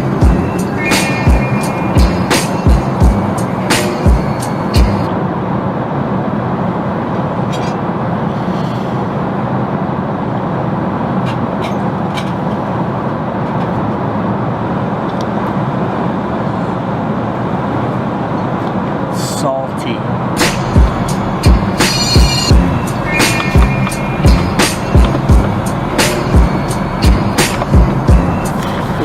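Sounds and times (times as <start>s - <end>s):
airliner cabin roar: 0.0s - 29.0s.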